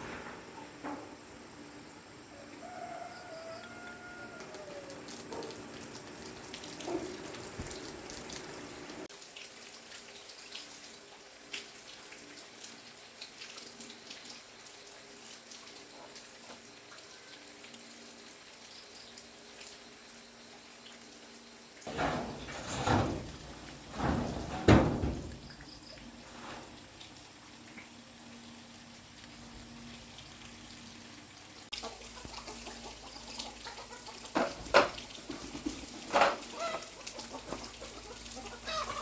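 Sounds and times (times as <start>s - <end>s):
water trickling and splashing: 3.4s - 39.0s.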